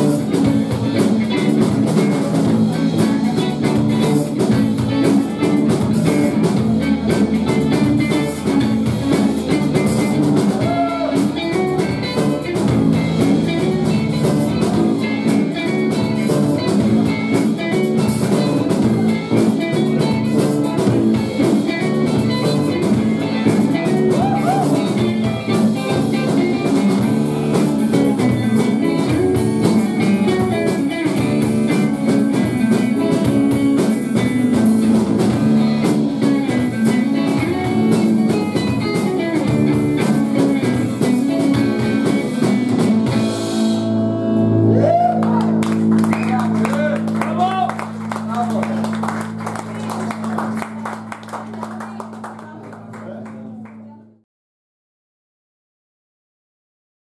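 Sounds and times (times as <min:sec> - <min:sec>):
drum kit: 0:00.0 - 0:52.3
live rock band playing: 0:00.0 - 0:53.8
electric guitars: 0:00.0 - 0:53.9.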